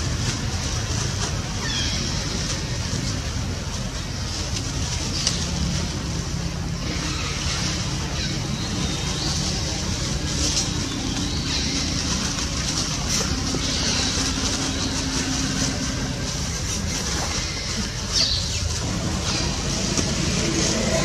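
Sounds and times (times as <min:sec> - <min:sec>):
continuous low rumble: 0:00.0 - 0:21.0.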